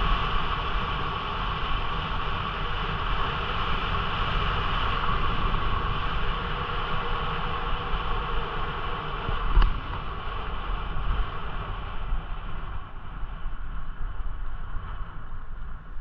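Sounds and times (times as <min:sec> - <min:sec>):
steady rumble: 0:00.0 - 0:16.0
wind noise on microphone: 0:00.0 - 0:16.0.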